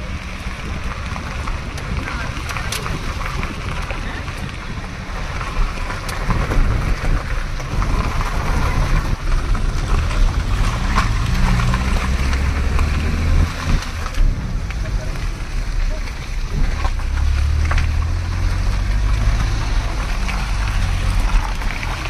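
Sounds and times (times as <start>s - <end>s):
wind buffeting microphone: 0.1s - 22.0s.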